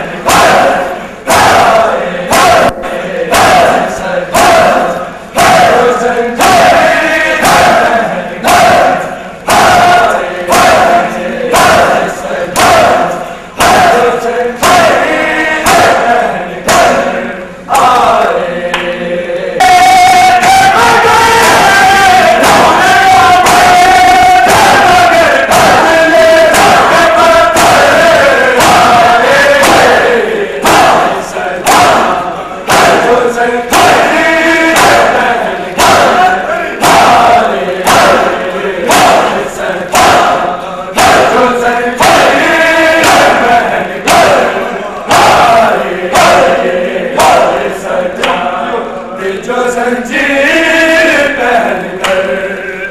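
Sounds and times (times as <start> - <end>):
men chanting in unison: 0.0 - 52.9.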